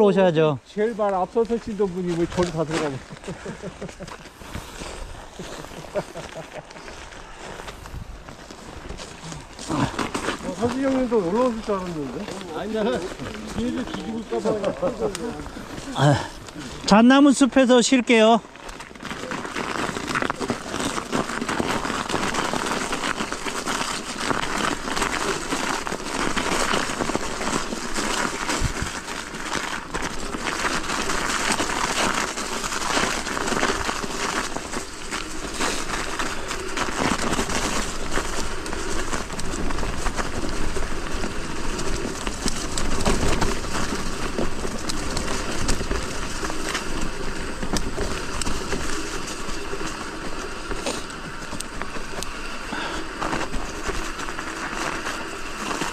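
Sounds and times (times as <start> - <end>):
snow crackling under tyres: 0.0 - 55.9
tyre and wind noise: 0.0 - 55.9.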